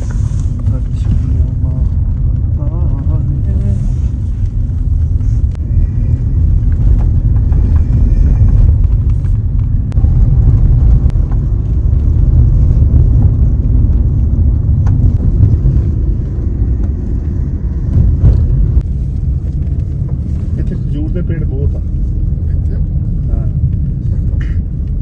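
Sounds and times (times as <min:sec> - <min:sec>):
car interior low rumble: 0:00.0 - 0:25.0.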